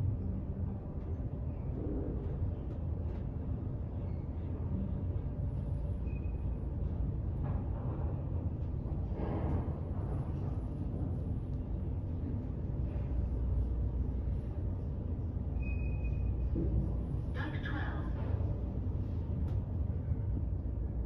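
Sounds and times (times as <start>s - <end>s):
low mechanical rumble and hum: 0.0s - 21.0s.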